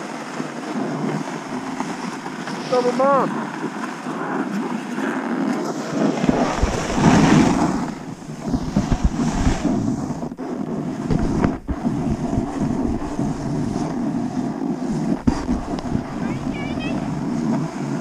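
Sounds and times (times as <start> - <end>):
skis scraping on snow: 0.0 - 18.0
wind buffeting microphone: 0.0 - 18.0.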